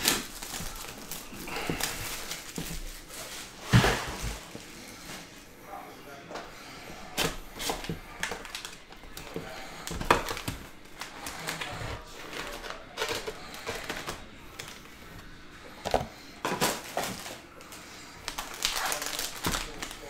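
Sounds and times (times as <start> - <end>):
foil packs crinkling: 0.0 - 5.5, 6.6 - 20.0.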